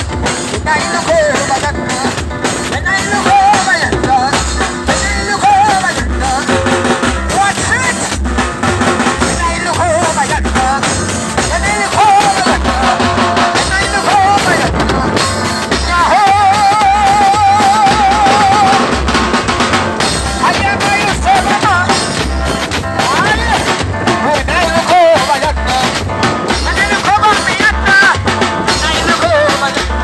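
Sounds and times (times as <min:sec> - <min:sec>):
bass drum beat: 0:00.0 - 0:30.0
live band music: 0:00.0 - 0:30.0.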